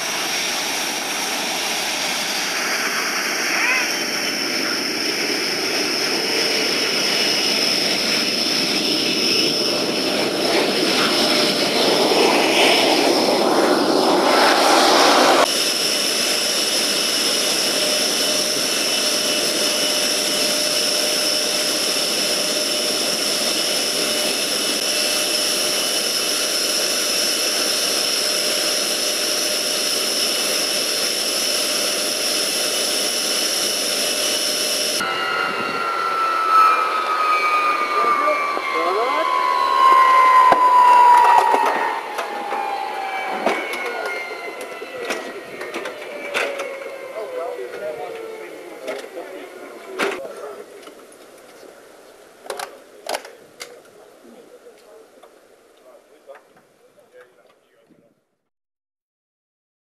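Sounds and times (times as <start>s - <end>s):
jet engines whining: 0.0s - 50.9s.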